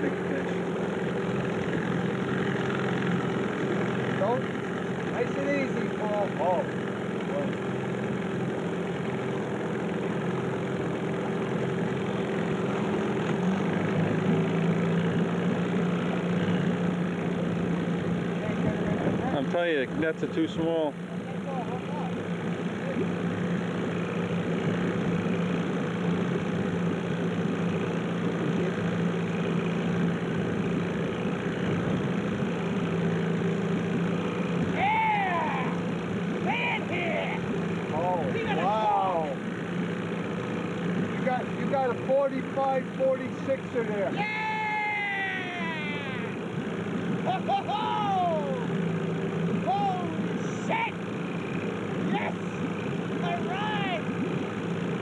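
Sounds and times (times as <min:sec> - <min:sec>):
outboard motor idling: 0:00.0 - 0:55.0.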